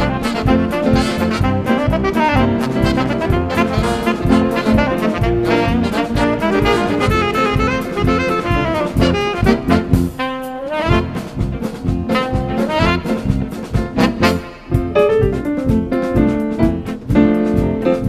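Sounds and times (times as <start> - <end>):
trumpet: 0.0 - 15.0
drum kit beat: 0.0 - 18.0
live jazz band: 0.0 - 18.0
trombone: 0.0 - 18.0.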